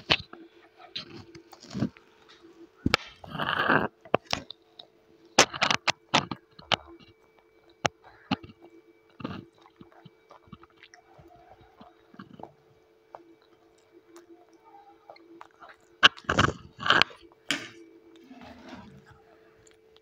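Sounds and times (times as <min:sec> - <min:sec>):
chewing: 0:00.0 - 0:17.5
faint steady hum: 0:00.0 - 0:20.0.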